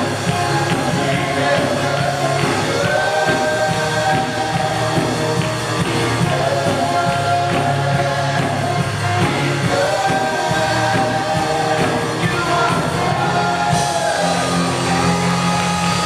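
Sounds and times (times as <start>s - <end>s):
band playing: 0.0s - 16.0s
group of voices singing: 0.0s - 16.0s.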